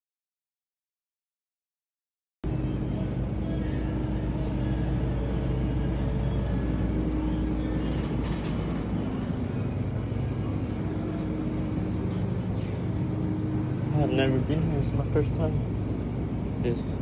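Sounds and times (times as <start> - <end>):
low mechanical hum: 2.4 - 17.0.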